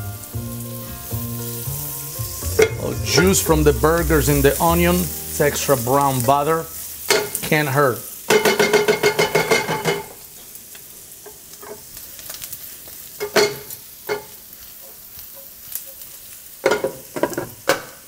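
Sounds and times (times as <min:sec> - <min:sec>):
onions sizzling in frying pan: 0:00.0 - 0:18.0.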